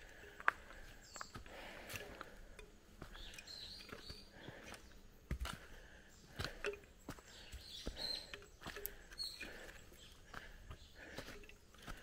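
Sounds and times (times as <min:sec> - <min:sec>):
bird chirps: 0:00.2 - 0:12.0.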